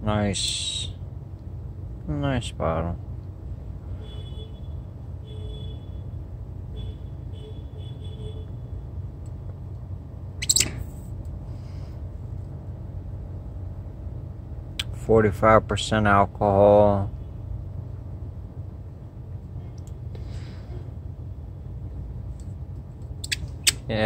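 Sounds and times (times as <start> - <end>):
low room rumble: 0.0 - 24.0.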